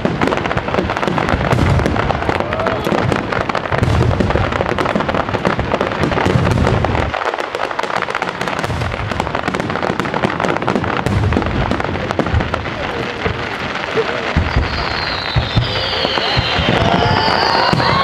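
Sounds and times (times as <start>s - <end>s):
fireworks crackling: 0.0s - 18.0s
fireworks deep booms: 0.0s - 18.0s.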